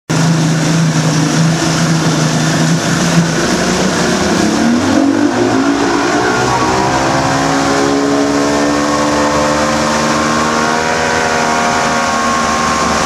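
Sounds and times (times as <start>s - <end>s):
churning wake water: 0.1s - 13.0s
outboard motor running: 0.1s - 13.0s
wind: 0.1s - 13.0s.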